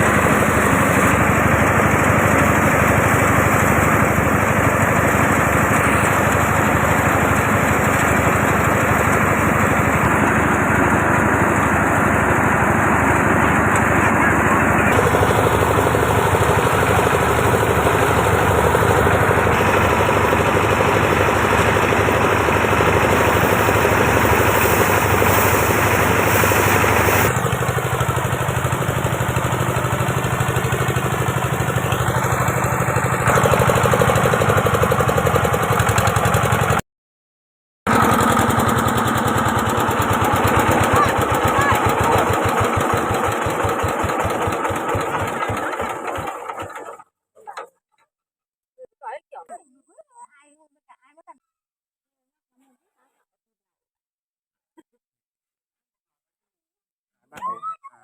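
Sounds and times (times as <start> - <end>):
small engine running under load: 0.0 - 36.8, 37.9 - 47.8.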